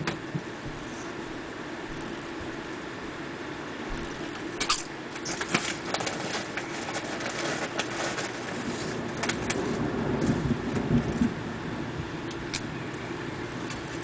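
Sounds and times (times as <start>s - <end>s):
steady rain hiss: 0.2s - 14.0s.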